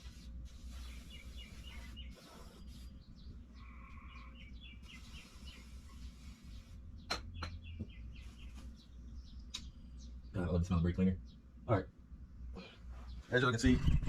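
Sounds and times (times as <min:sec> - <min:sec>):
faint low hum: 0:00.0 - 0:14.0
small birds chirping: 0:00.0 - 0:14.0.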